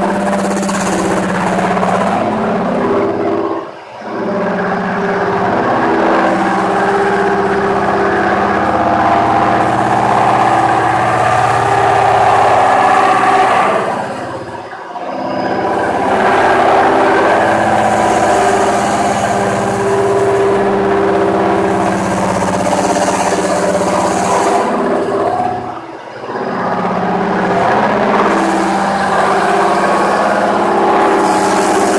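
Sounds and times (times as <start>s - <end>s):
machine motors humming: 0.0s - 31.9s.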